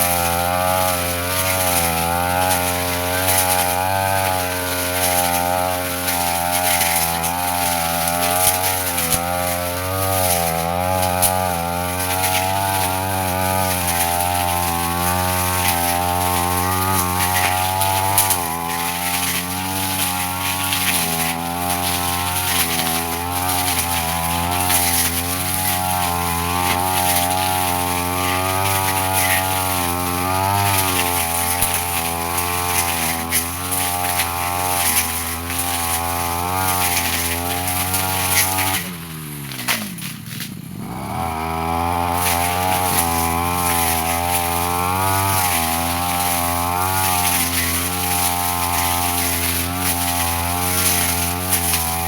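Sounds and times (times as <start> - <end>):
brush cutter engine: 0.0 - 52.0.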